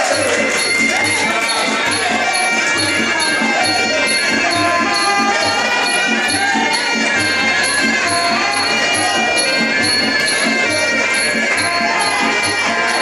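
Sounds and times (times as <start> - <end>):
hand drums beat: 0.0 - 13.0
reedy oboe melody: 0.2 - 13.0
small cymbals: 0.2 - 13.0.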